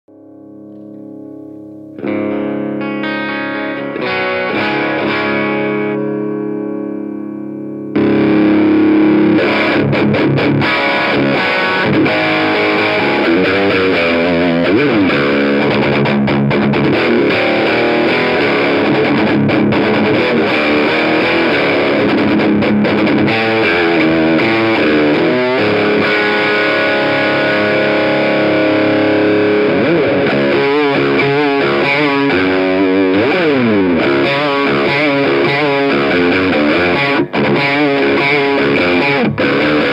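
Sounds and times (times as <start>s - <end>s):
distorted electric guitar riffing: 0.1s - 39.9s.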